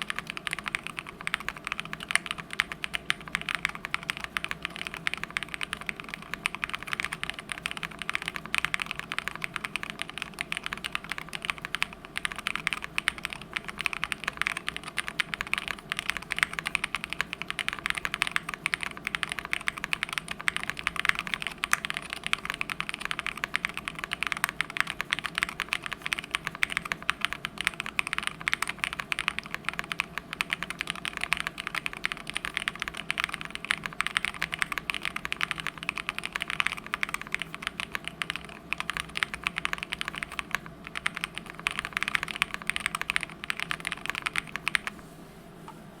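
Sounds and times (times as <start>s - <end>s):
mechanical keyboard typing: 0.0s - 44.9s.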